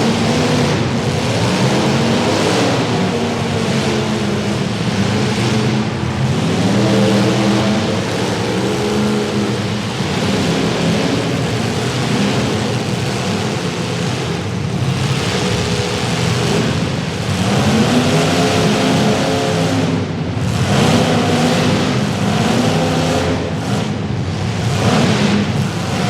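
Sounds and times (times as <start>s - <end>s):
car engines revving: 0.0s - 26.0s
steady background noise: 0.0s - 26.0s.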